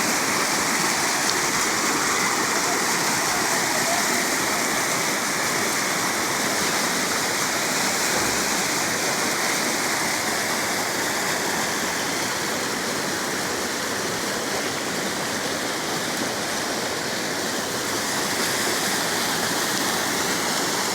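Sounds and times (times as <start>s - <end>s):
rain falling: 0.0s - 20.9s.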